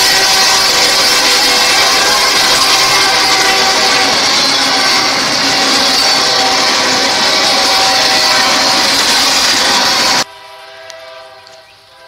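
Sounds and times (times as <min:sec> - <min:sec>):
steel wheels rushing on rail: 0:00.0 - 0:12.0.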